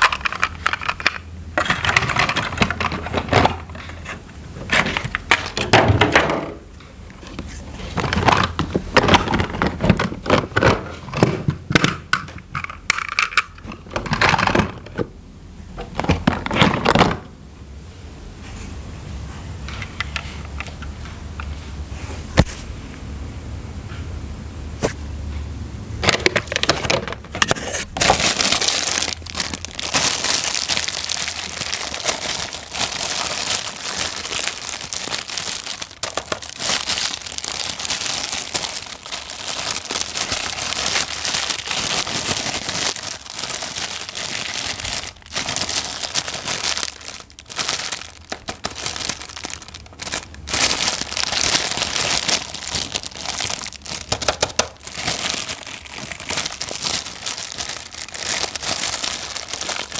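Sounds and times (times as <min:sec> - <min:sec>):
packaging crinkling and rustling: 0:00.0 - 0:06.3, 0:07.1 - 0:15.1, 0:15.8 - 0:17.3, 0:26.0 - 0:59.9.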